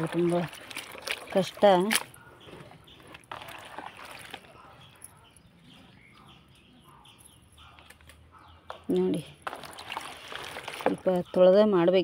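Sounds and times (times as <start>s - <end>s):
faint birds chirping: 1.4s - 12.0s.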